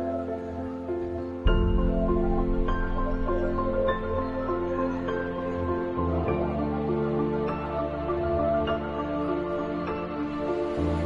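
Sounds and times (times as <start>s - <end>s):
sustained chords background music: 0.0s - 11.0s.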